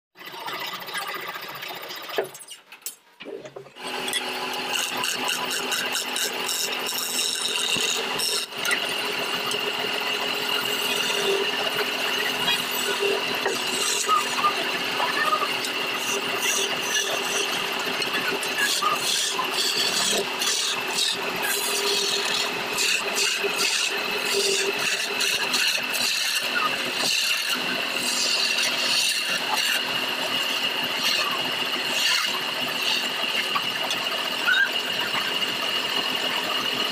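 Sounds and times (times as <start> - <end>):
wood lathe whine: 0.2 - 2.4, 3.7 - 36.9
chisel scraping spinning wood: 0.2 - 2.6, 3.3 - 36.9.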